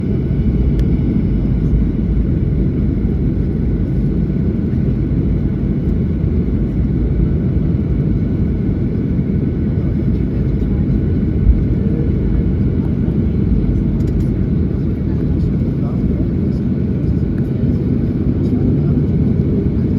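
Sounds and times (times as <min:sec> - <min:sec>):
airplane cabin low rumble: 0:00.0 - 0:19.9.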